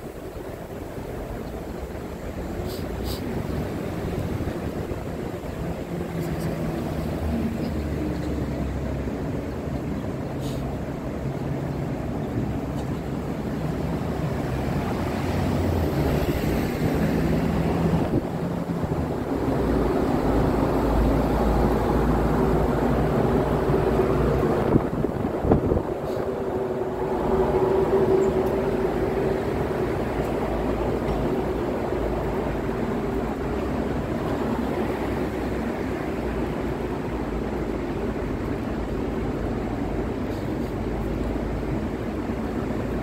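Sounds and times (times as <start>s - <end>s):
vehicle engines rumbling: 0.0s - 43.0s.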